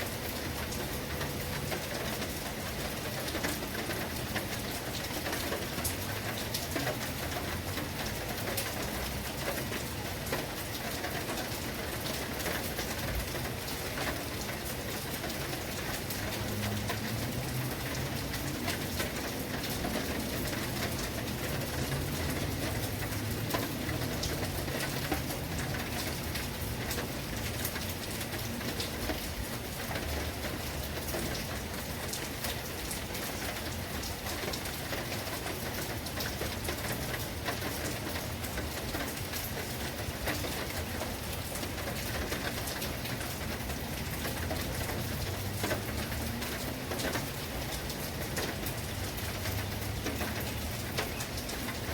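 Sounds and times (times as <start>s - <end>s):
heavy rain splashing: 0.0s - 51.9s.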